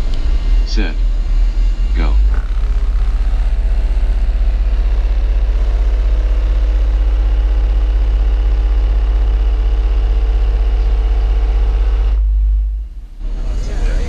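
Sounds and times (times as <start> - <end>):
very deep bass tone: 0.0 - 14.0.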